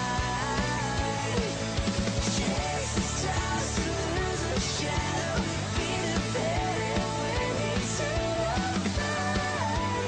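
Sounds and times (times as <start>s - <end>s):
pop-rock band music: 0.0s - 10.0s.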